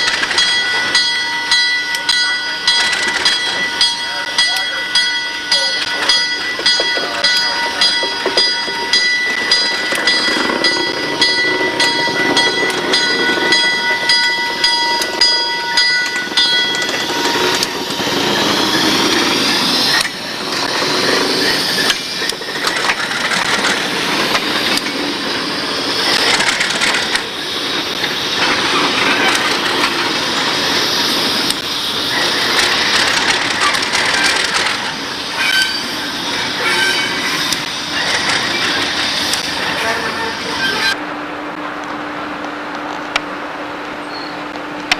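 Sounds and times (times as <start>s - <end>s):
locomotive bell dinging: 0.0s - 41.0s
wheels clattering on rails: 0.0s - 41.0s
diesel locomotive engine rumble: 0.0s - 44.9s.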